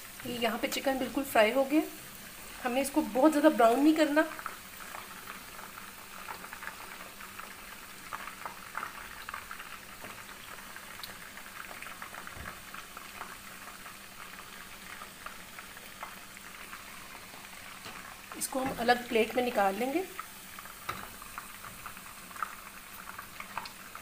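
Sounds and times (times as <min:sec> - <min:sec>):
oil frying and crackling: 0:00.0 - 0:24.0.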